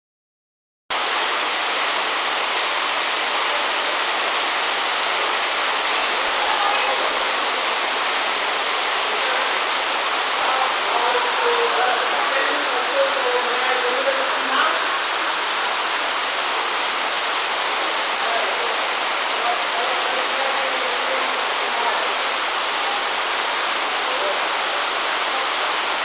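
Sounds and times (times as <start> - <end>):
heavy rain on a flooded street: 0.9 - 26.0.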